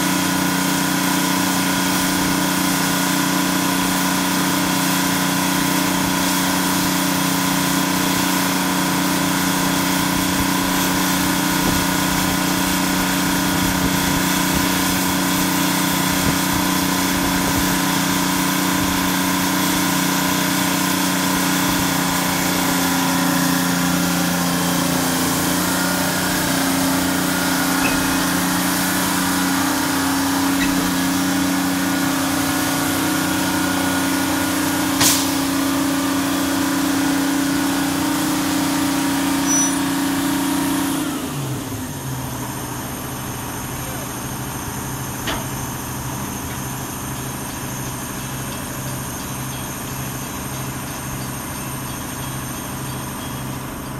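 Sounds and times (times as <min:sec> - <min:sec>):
crane engine running: 0:00.0 - 0:53.9.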